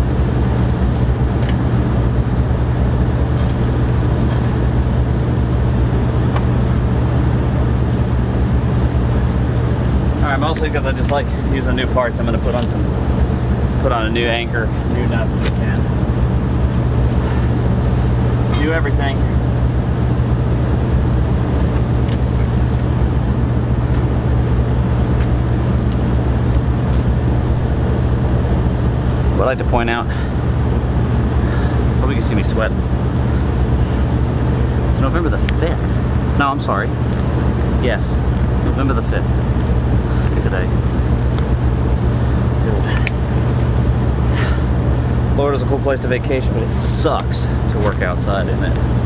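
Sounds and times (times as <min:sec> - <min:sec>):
low machine drone: 0:00.0 - 0:49.0.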